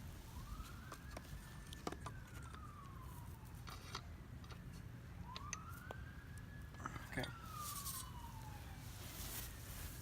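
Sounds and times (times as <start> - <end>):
faint police siren wailing: 0.0 - 10.0.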